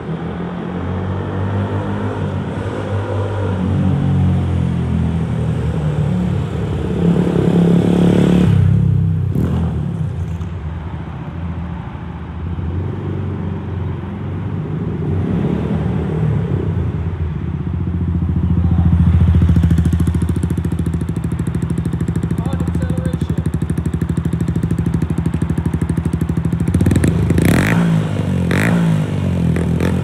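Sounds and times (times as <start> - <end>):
motorcycle engine accelerating: 0.0 - 10.6, 15.0 - 30.0.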